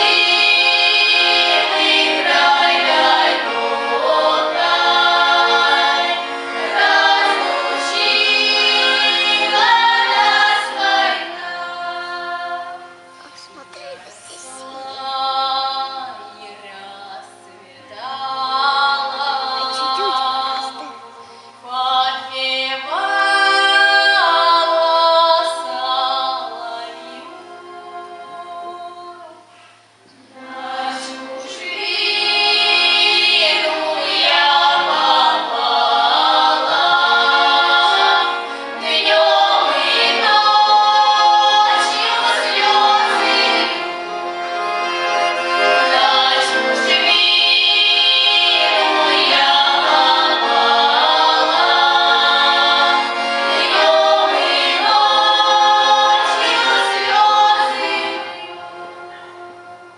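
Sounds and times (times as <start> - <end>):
woman singing with choir: 0.0 - 29.4, 30.5 - 44.0, 45.6 - 59.6.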